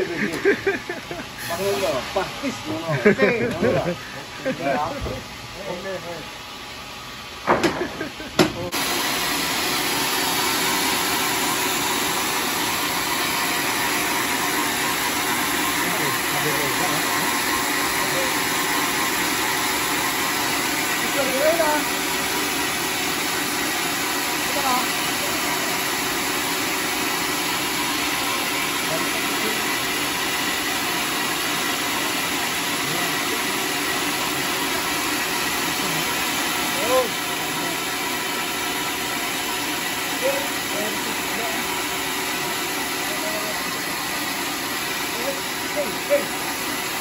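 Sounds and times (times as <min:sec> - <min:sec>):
band saw cutting log: 0:00.0 - 0:06.2, 0:07.4 - 0:47.0.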